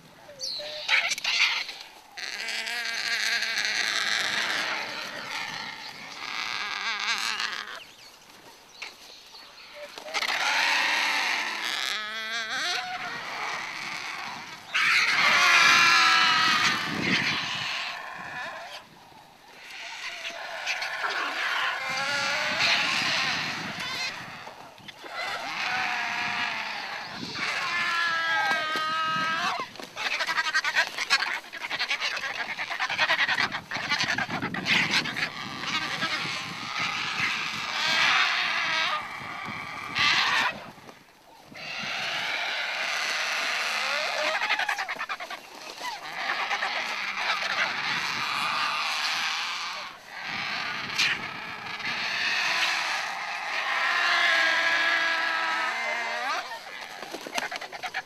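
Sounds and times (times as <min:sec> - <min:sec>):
vultures squealing: 0:00.3 - 0:07.9, 0:09.6 - 0:18.9, 0:19.5 - 0:58.0.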